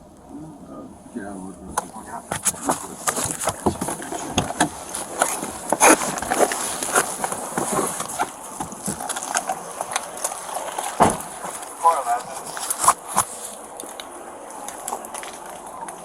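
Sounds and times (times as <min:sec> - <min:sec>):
footsteps: 0:01.7 - 0:16.0
clothing rustling on microphone: 0:01.9 - 0:16.0.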